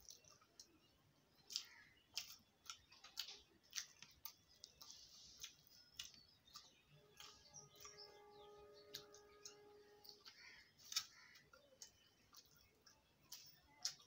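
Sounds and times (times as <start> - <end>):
wet mouth clicks of chewing: 0.0 - 14.0.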